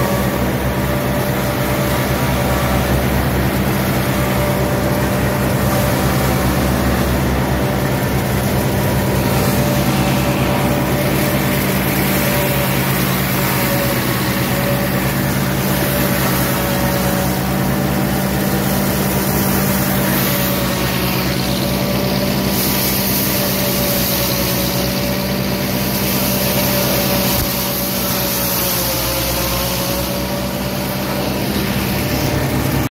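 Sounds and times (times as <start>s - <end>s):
forage harvester high whine: 0.0s - 32.9s
tractor engine droning: 0.0s - 32.9s.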